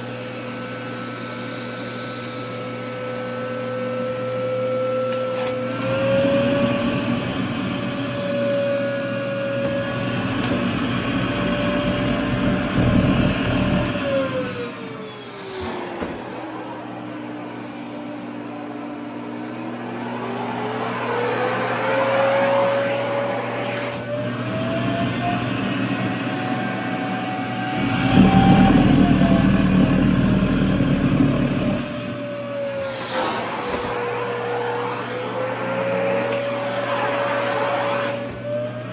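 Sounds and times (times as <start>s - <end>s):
vacuum cleaner motor whining: 0.0s - 38.9s.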